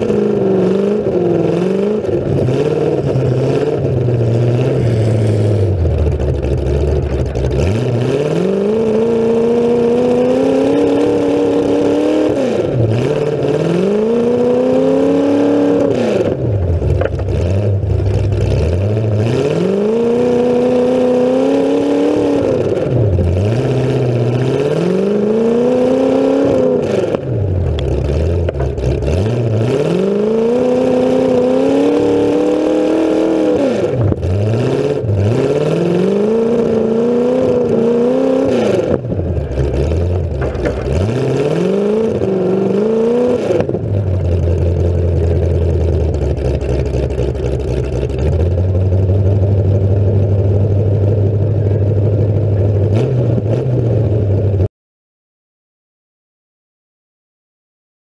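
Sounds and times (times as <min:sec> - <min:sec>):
car engine revving and idling: 0:00.0 - 0:54.7.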